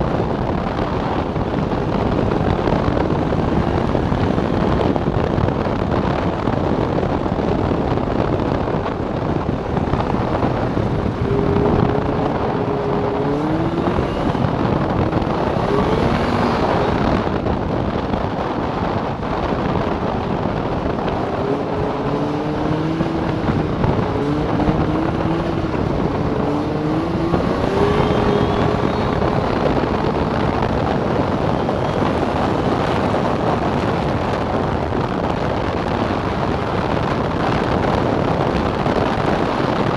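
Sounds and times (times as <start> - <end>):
snowmobile engine running: 0.0 - 39.9
wind noise on microphone: 0.0 - 39.9.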